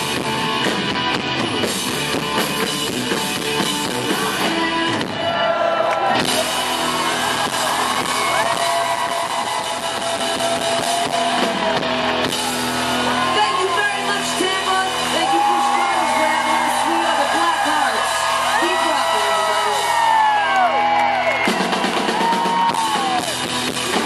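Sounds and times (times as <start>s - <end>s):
bass guitar: 0.0s - 24.0s
drums: 0.0s - 24.0s
electric guitars: 0.0s - 24.0s.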